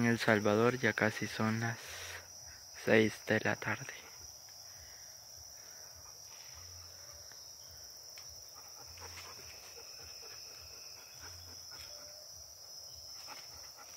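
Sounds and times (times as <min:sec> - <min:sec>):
insects chirping: 0:00.0 - 0:13.9.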